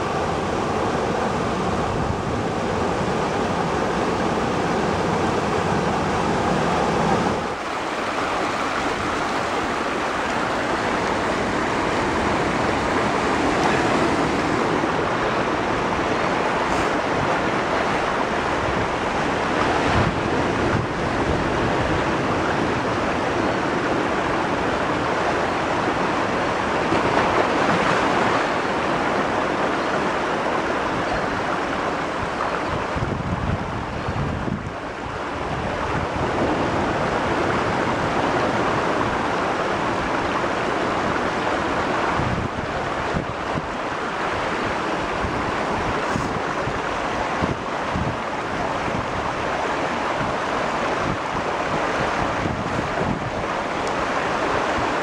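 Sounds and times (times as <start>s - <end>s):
water rushing down boulders: 0.0s - 55.0s
wind on microphone: 0.0s - 55.0s.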